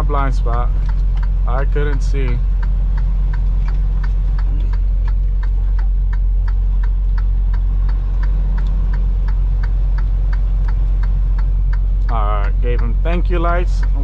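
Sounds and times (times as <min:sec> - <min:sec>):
diesel engine drone: 0:00.0 - 0:14.0
road noise: 0:00.0 - 0:14.0
turn-signal flasher ticking: 0:00.0 - 0:14.0.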